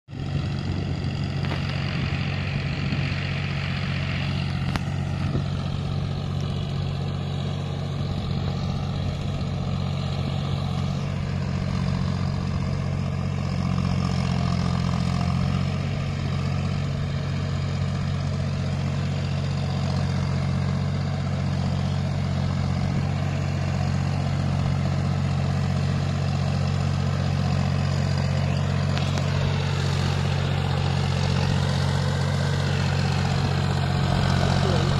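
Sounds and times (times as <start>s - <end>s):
tractor diesel engine under load: 0.1s - 34.9s.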